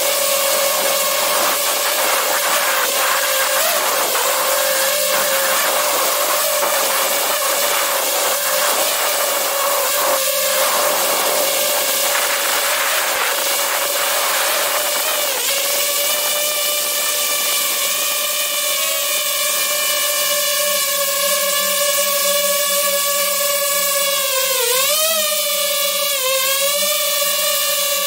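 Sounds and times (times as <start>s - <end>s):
drone propellers buzzing whine: 0.0s - 28.0s.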